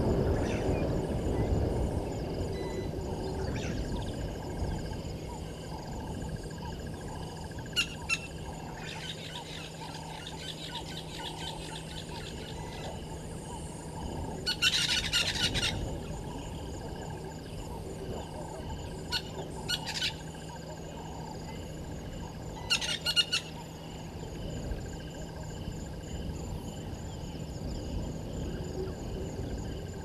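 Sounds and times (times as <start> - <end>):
birds chirping and twittering: 0.0 - 30.0
insects droning: 0.0 - 30.0.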